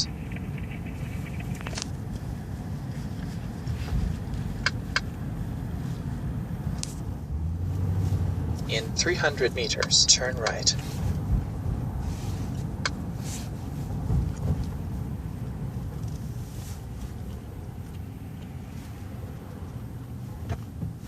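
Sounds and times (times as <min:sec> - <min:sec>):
vehicle cabin road rumble: 0:00.0 - 0:21.0.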